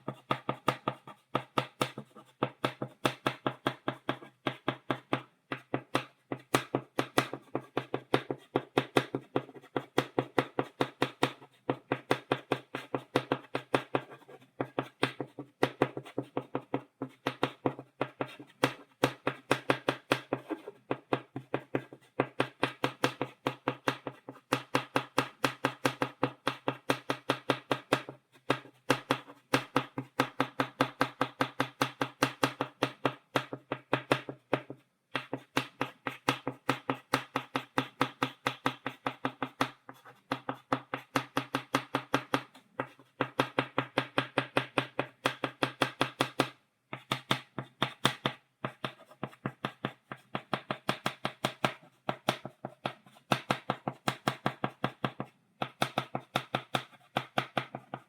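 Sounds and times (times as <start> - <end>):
chalk tapping on blackboard: 0.0 - 58.0.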